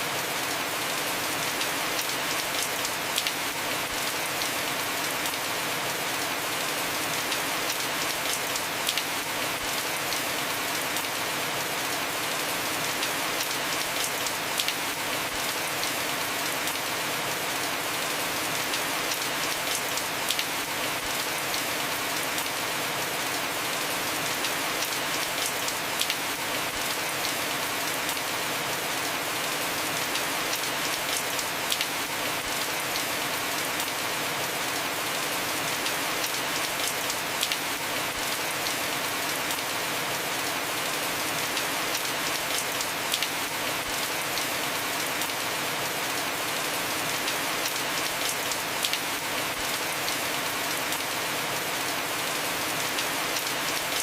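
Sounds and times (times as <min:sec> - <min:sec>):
heavy rain on a roof: 0:00.0 - 0:54.0.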